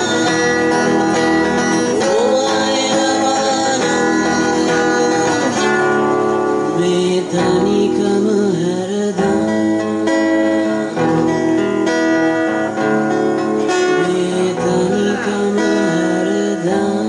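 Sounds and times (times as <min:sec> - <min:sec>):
man singing: 0:00.0 - 0:11.4, 0:13.6 - 0:17.0
acoustic guitars strummed: 0:00.0 - 0:17.0.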